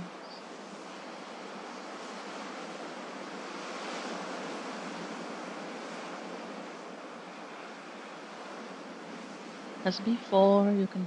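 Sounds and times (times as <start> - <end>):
sea waves washing ashore: 0.0 - 11.0.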